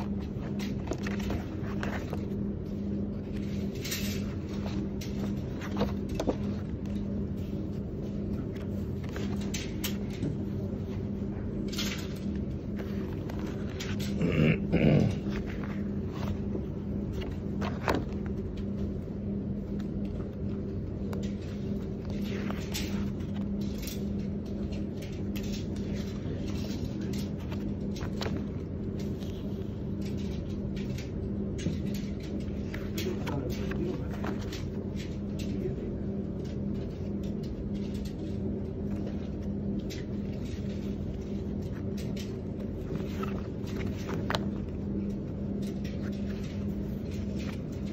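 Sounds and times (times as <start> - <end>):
rustles and clicks of handling: 0.0 - 47.9
steady low hum: 0.0 - 47.9.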